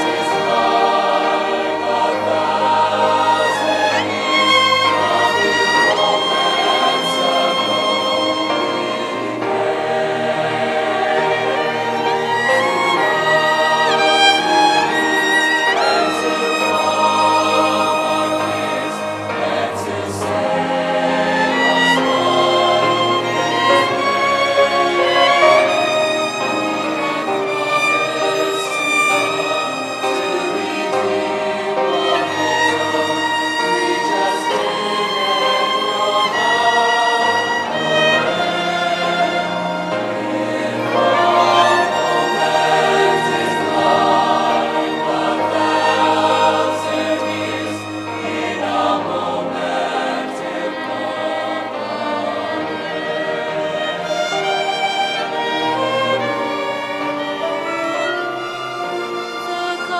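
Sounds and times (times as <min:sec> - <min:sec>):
choir singing: 0:00.0 - 0:59.9
string orchestra sustained chords: 0:00.0 - 0:59.9.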